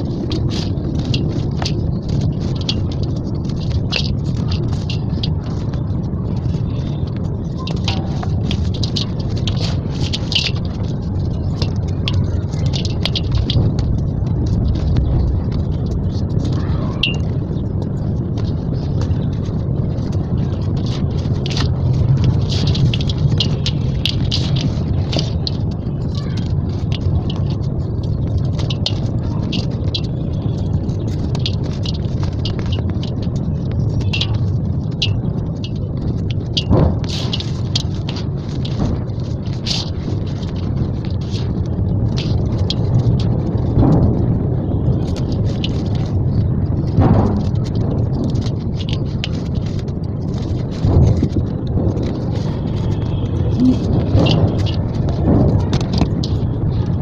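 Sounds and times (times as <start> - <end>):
crumbling cement chunks crunching: 0.0 - 57.0
low rumble: 0.0 - 57.0.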